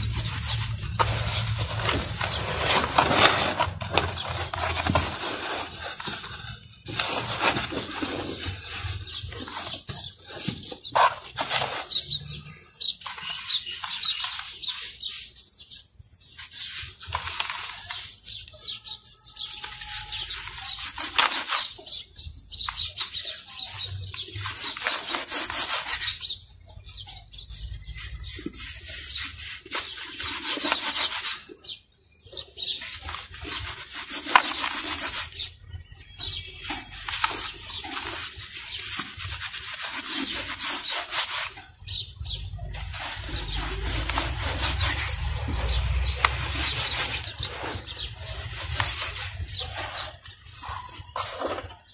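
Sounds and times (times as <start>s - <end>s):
hands crushing charcoal: 0.0s - 31.6s, 32.3s - 51.9s.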